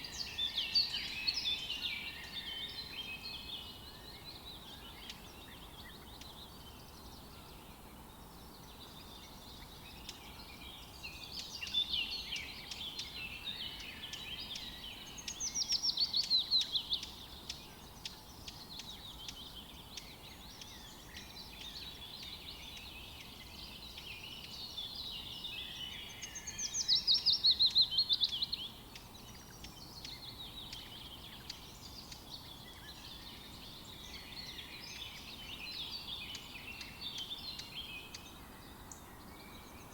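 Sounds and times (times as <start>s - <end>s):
loud falling bird song: 0.0s - 39.9s
songbirds chirping and singing: 0.0s - 39.9s.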